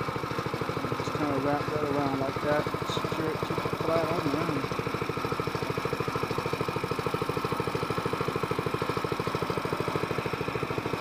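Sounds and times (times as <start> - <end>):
outboard motor puttering: 0.0 - 11.0.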